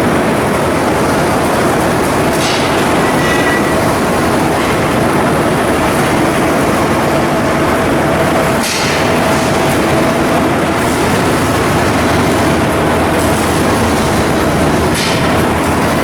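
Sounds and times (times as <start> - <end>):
loud machinery noise: 0.0 - 16.0.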